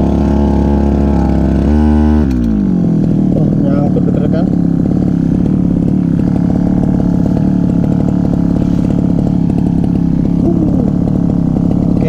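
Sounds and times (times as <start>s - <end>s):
brushcutter engine running: 0.0s - 12.0s.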